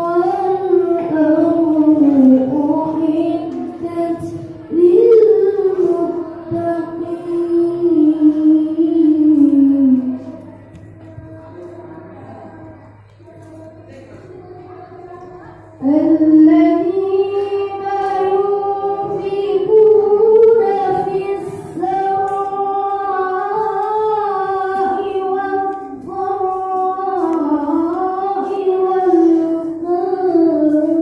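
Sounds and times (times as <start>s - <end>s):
boy reciting melodically: 0.0s - 31.0s.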